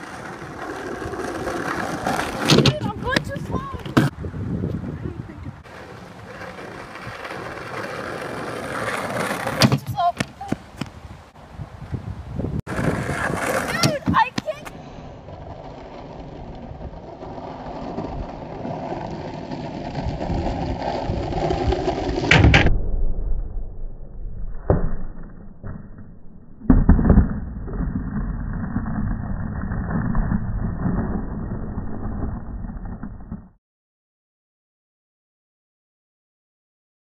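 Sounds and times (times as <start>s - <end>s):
skateboard wheels rolling on asphalt: 0.0s - 22.3s, 25.6s - 33.6s.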